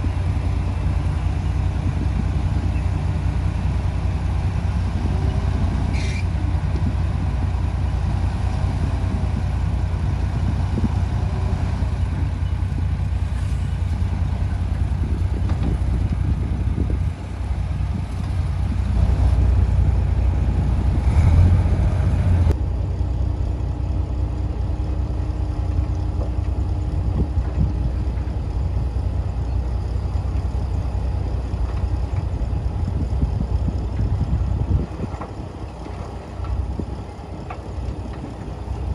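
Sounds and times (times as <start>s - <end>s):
diesel engine low rumble: 0.0s - 38.9s.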